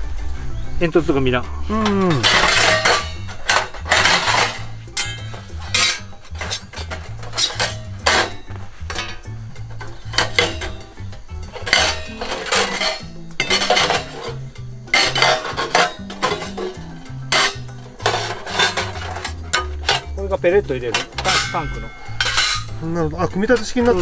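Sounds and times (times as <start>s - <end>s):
background music: 0.0s - 24.0s
metal stove parts clanking: 1.7s - 24.0s.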